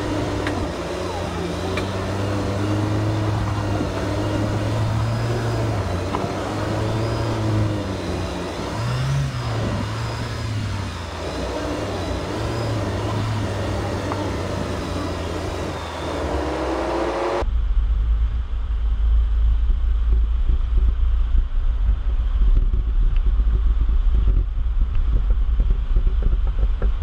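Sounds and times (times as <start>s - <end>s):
car engine running at low revs: 0.0s - 27.0s.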